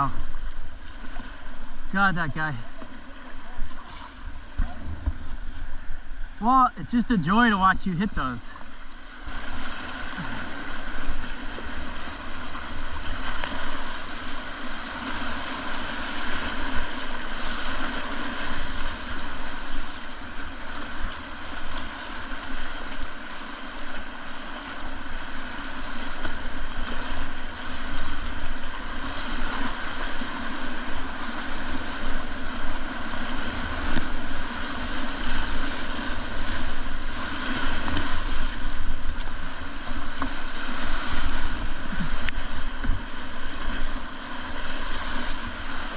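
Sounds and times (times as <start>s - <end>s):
whitewater rushing: 0.0s - 23.7s, 24.3s - 45.9s.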